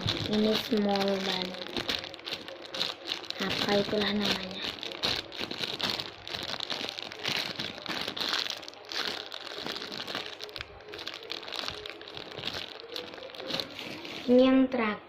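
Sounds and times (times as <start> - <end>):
plastic packaging crinkling: 0.0 - 14.5.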